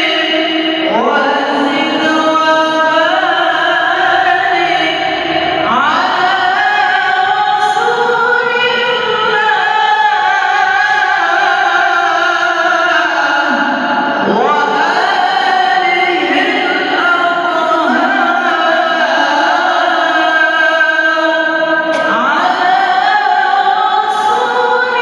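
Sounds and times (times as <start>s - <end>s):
girl reciting melodically: 0.0s - 13.5s, 14.3s - 25.0s.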